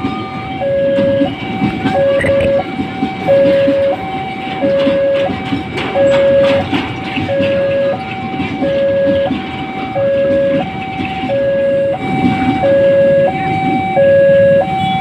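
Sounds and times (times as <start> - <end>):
freight wagons rumbling past: 0.0 - 15.0
two-tone crossing alarm: 0.0 - 15.0.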